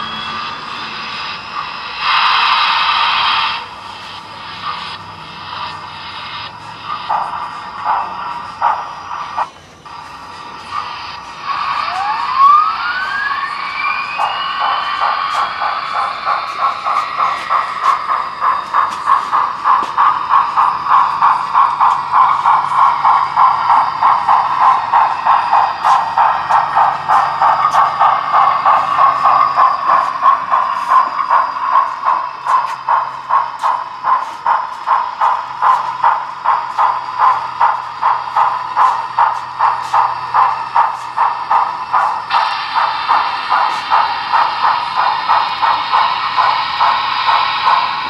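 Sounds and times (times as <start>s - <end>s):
model steam locomotive chuffing: 0.0s - 48.0s
whistle-like tone: 0.0s - 48.0s.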